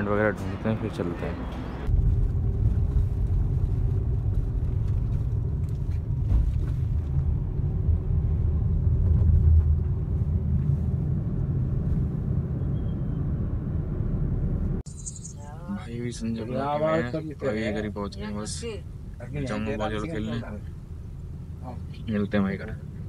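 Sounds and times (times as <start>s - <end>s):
vehicle rumble: 0.0s - 23.0s.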